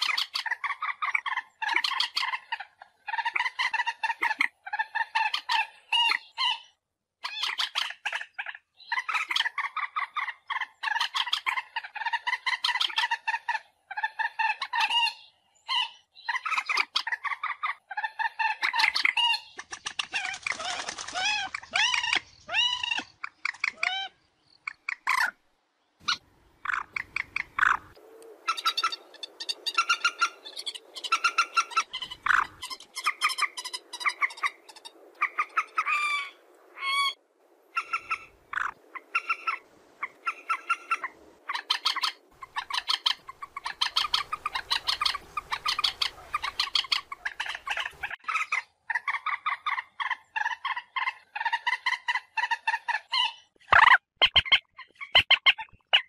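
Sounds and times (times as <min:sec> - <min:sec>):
moorhen calling: 0:00.0 - 0:25.4, 0:26.0 - 0:56.0.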